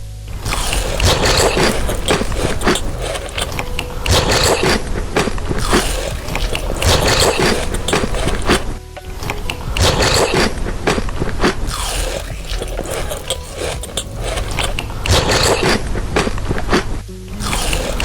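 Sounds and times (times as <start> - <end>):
person chewing crunchy food: 0.4 - 18.0.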